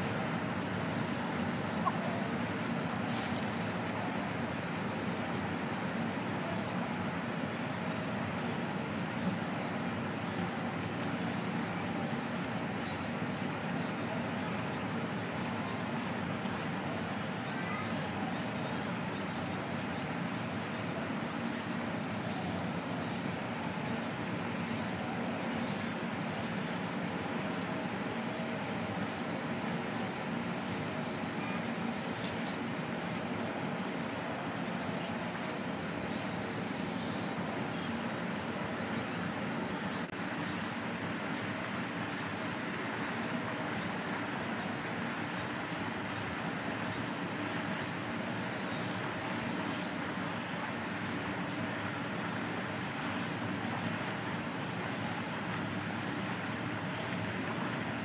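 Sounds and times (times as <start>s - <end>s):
outdoor background noise: 0.0s - 58.0s.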